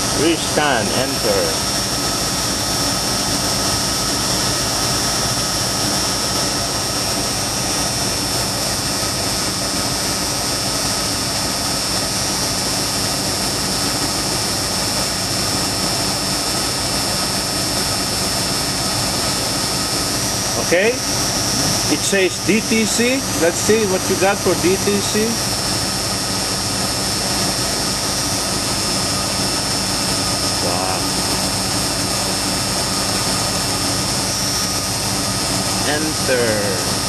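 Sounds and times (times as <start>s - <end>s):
constant engine whine: 0.0s - 37.0s.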